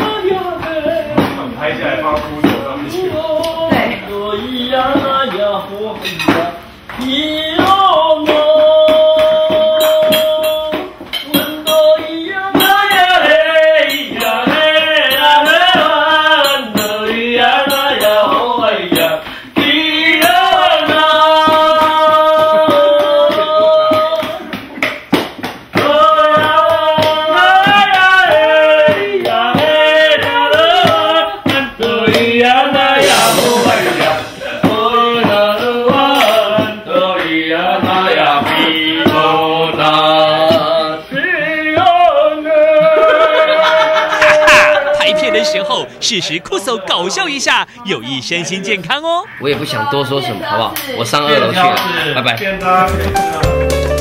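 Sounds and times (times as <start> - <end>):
man singing: 0.0 - 24.7, 25.7 - 49.8
steady percussive beat: 0.0 - 54.0.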